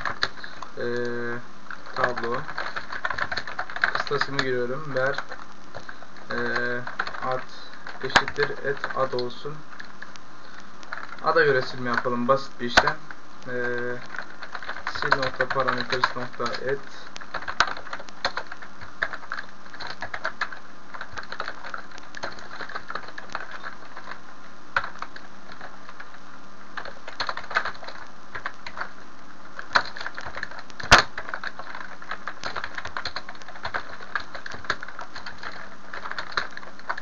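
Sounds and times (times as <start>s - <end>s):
computer keyboard typing: 0.0s - 24.2s, 24.8s - 26.2s, 26.8s - 28.9s, 29.5s - 37.0s.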